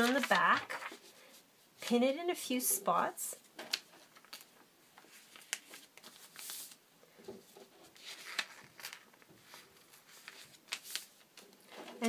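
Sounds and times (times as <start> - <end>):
paper and fabric rustling: 0.0 - 2.6, 3.6 - 12.0.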